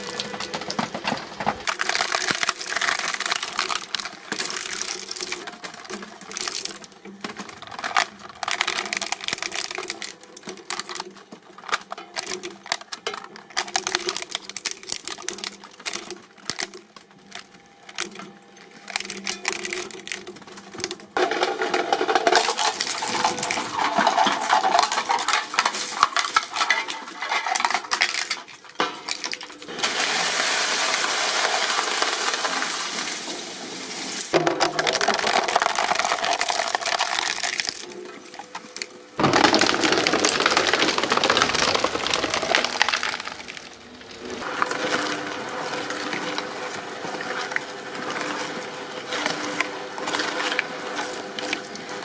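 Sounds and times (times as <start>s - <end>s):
shredding machines grinding: 0.0s - 52.0s.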